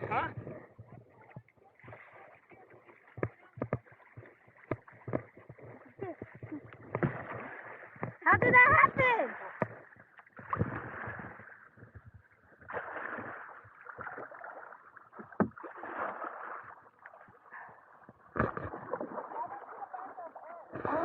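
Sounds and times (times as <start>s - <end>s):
water splashing around kayak: 0.0s - 21.0s.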